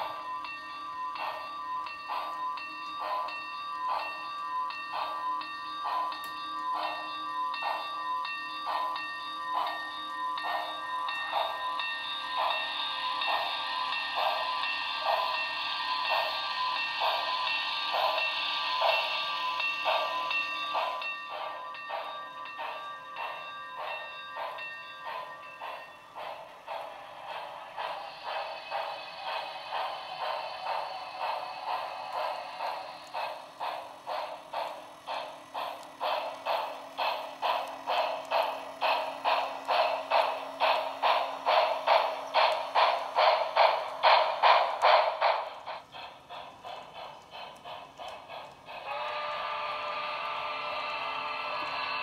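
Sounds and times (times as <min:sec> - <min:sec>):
model locomotive steam chuffing: 0:00.0 - 0:52.0
steady high tones: 0:00.0 - 0:52.0.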